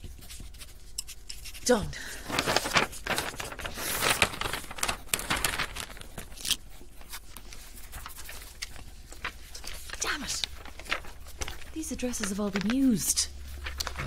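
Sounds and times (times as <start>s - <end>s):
paper pages rustling: 0.0s - 14.0s.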